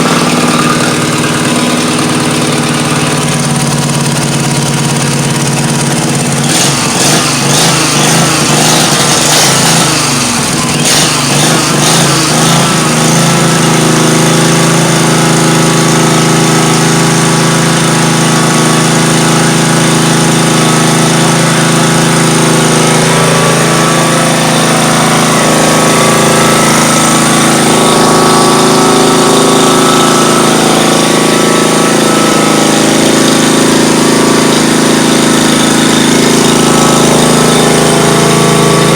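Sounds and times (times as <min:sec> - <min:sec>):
lawnmower engine open exhaust rattle: 0:00.0 - 0:38.9.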